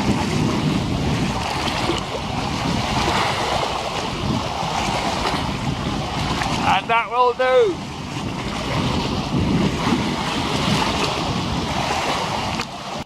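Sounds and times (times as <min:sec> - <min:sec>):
low wind rumble: 0:00.0 - 0:13.0
small waves lapping: 0:00.0 - 0:13.0.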